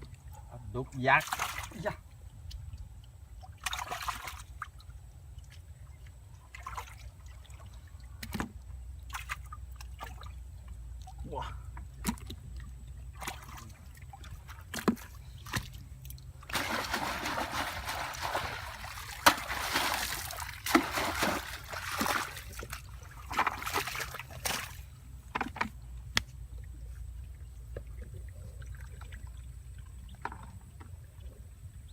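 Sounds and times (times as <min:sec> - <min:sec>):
water splashing and sloshing: 0:00.0 - 0:31.9.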